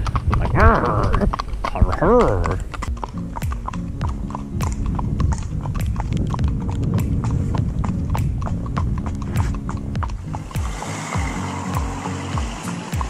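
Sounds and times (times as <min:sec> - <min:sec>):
hooves clip-clopping on tarmac: 0:00.0 - 0:13.0.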